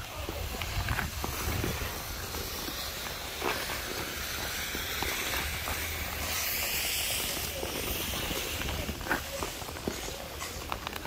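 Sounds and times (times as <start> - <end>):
ice skate blades scraping ice: 0.0 - 11.0.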